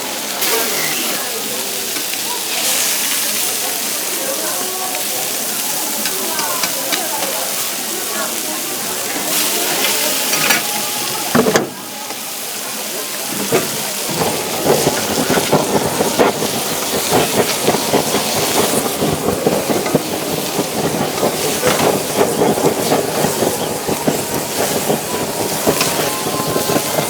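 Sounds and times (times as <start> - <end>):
steak sizzling and crackling: 0.2 - 27.0.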